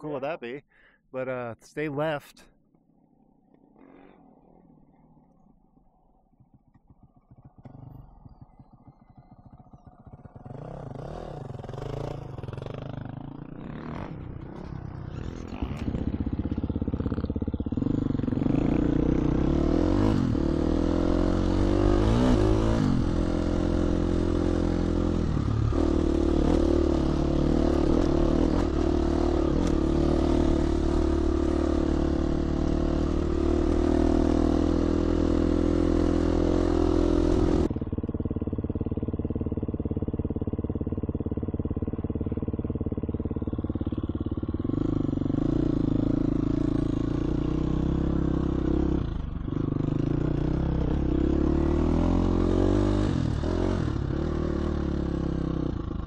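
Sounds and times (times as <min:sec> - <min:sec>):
dirt bike engine: 0:01.7 - 0:56.0.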